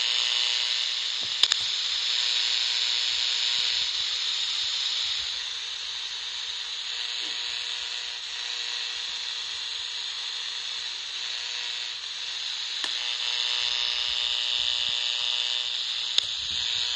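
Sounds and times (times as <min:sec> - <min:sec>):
radio static hiss: 0:00.0 - 0:16.9.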